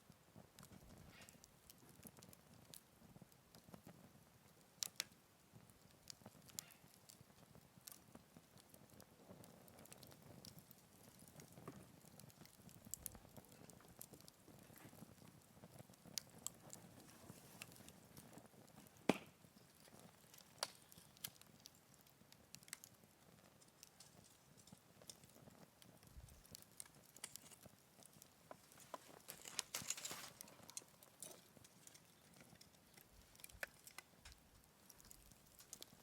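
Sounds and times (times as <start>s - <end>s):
fire pops and ticks: 0.0s - 36.0s
wood fire crackling faintly: 0.0s - 36.0s.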